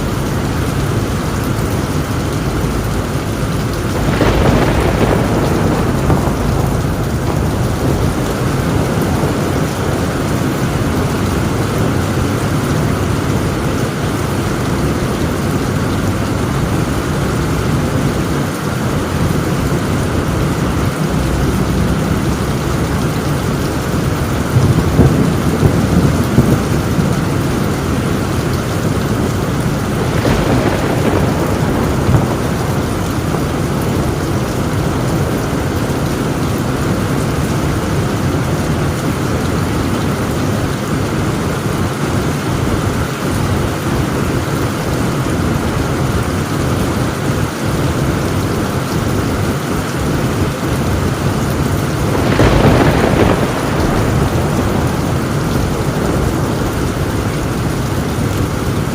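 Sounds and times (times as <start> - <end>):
heavy rain on a tin roof: 0.0 - 58.9
rolling thunder: 0.0 - 58.9.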